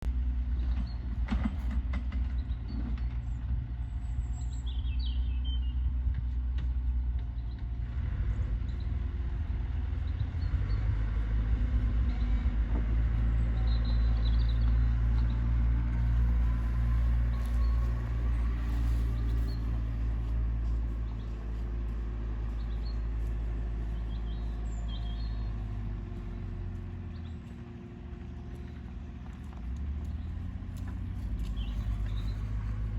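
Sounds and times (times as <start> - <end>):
low rumble: 0.0 - 32.9.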